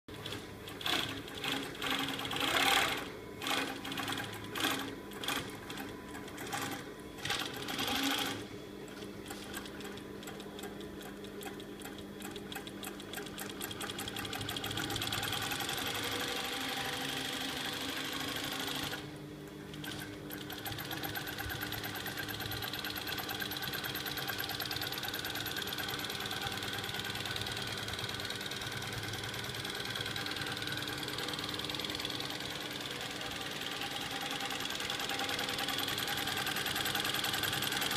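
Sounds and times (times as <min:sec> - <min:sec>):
sewing machine stitching: 0:00.1 - 0:08.4, 0:09.3 - 0:19.1, 0:19.7 - 0:37.9.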